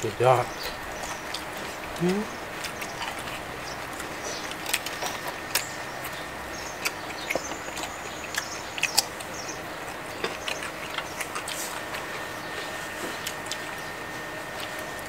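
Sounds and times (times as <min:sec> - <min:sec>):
chewing crisp fried fish: 0:00.0 - 0:15.0.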